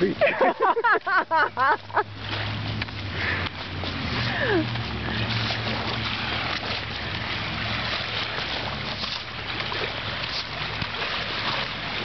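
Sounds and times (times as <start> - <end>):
surf: 0.0 - 12.0.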